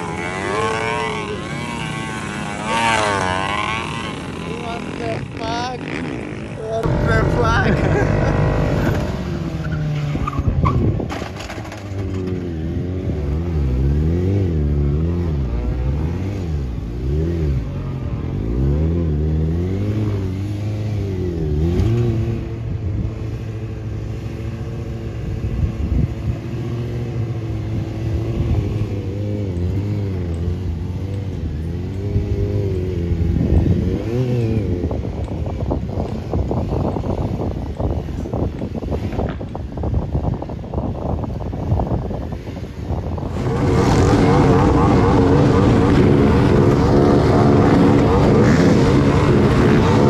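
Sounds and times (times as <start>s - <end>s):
motorcycle engine revving: 0.0s - 39.5s, 41.7s - 50.0s.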